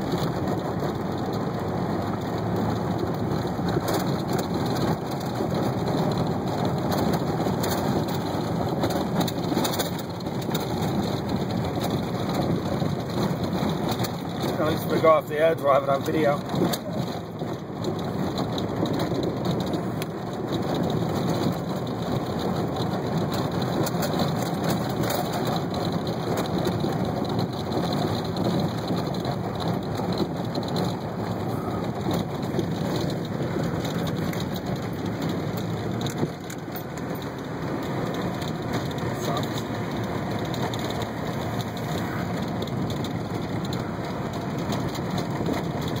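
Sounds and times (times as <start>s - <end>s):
engine and tyres rumbling: 0.0s - 46.0s
rain drumming on a car: 0.0s - 46.0s.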